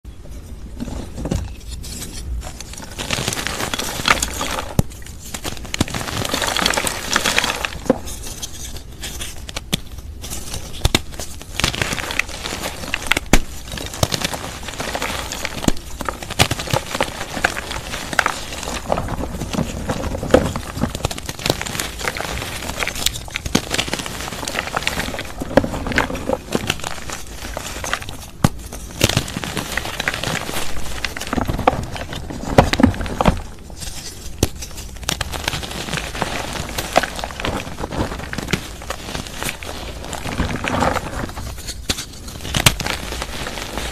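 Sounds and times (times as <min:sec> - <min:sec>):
chalk crumbling and snapping: 0:00.2 - 0:43.9.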